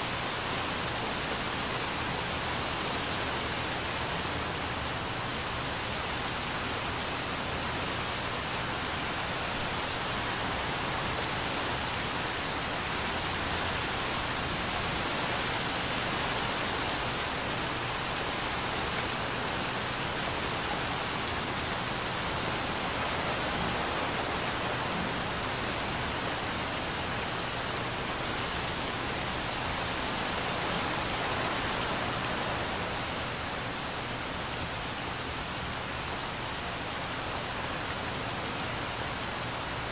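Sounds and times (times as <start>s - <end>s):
rain on pool and concrete: 0.0s - 39.9s.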